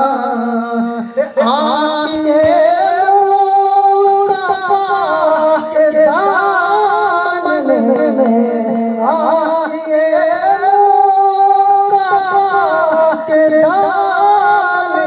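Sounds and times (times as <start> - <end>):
young man singing into microphone: 0.0 - 15.0.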